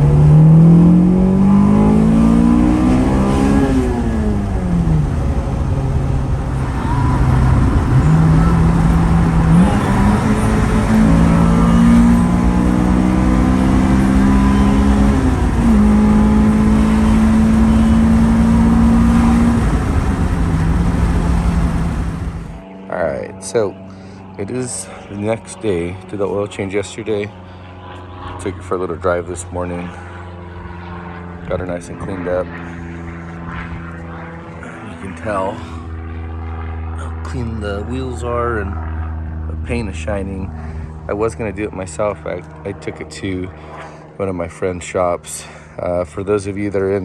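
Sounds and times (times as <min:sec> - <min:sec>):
car engine revving: 0:00.0 - 0:22.6, 0:25.6 - 0:44.2.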